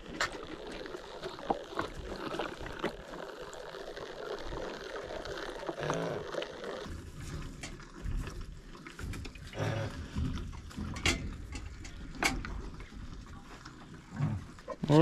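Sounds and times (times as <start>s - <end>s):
calf slurping from bottle: 0.0s - 15.0s.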